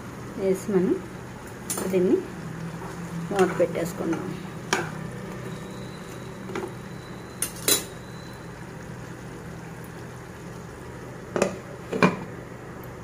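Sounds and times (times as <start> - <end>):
food cooking hiss: 0.0 - 12.7.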